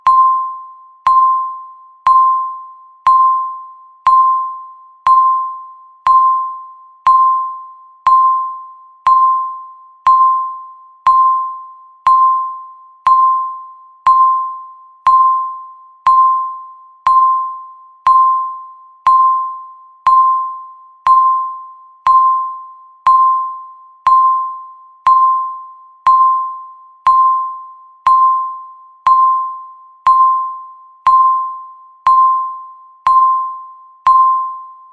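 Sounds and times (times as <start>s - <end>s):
timer beeps: 0.0s - 34.9s.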